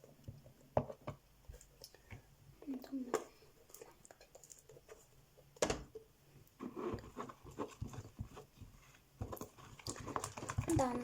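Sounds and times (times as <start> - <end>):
spatula stirring sticky slime: 0.0 - 11.0.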